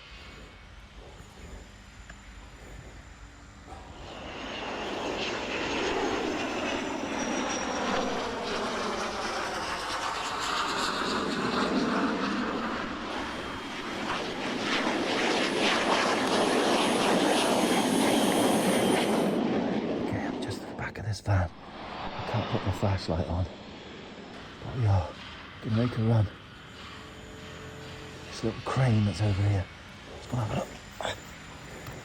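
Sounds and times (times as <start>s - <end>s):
aeroplane engine passing: 0.0s - 32.0s.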